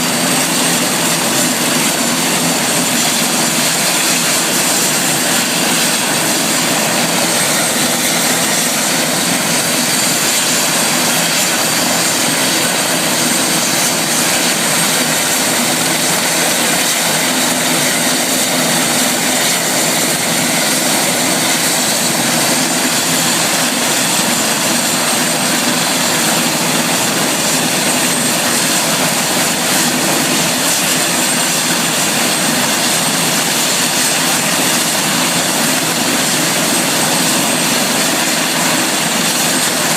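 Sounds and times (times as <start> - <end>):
helicopter engines and rotors: 0.0 - 39.9.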